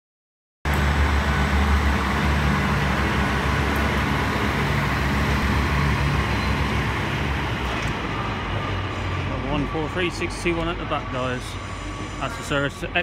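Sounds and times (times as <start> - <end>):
diesel engines droning: 0.7 - 13.0
train wheel and rail noise: 0.7 - 13.0.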